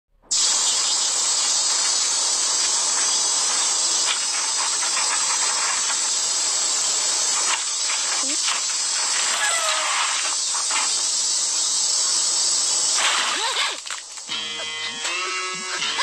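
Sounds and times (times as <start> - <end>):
cicadas droning: 0.3 - 16.0.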